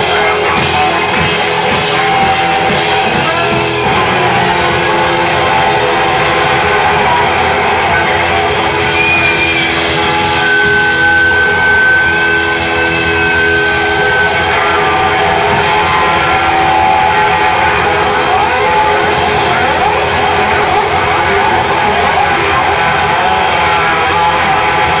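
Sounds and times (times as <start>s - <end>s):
distorted electric guitars: 0.0s - 25.0s
drum kit: 0.0s - 25.0s
rock band playing: 0.0s - 25.0s.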